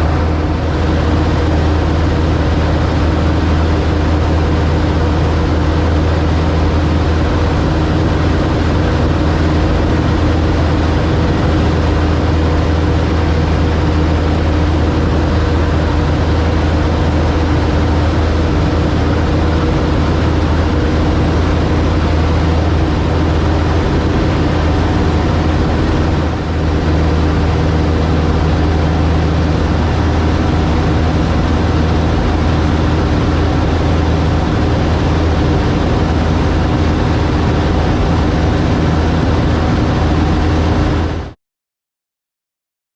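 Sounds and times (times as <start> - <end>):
light aircraft engine drone: 0.0 - 41.4.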